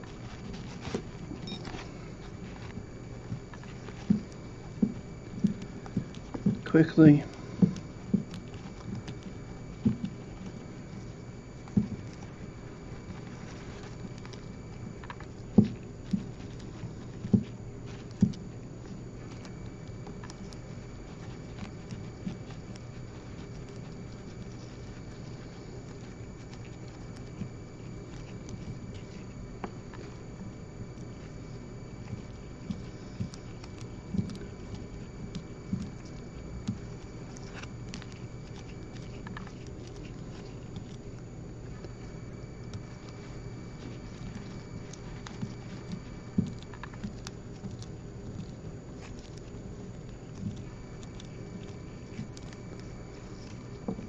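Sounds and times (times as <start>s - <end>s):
faint high whine: 0.0s - 54.0s
faint steady hum: 0.0s - 54.0s.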